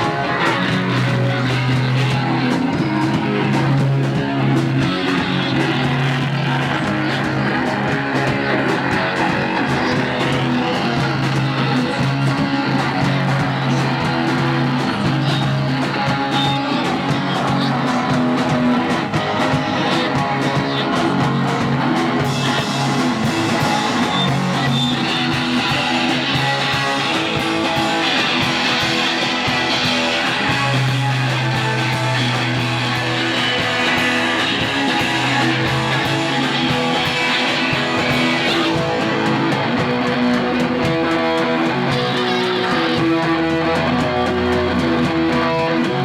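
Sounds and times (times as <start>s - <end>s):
bass notes: 0.0s - 46.0s
drums: 0.0s - 46.0s
strummed electric guitar: 0.0s - 46.0s.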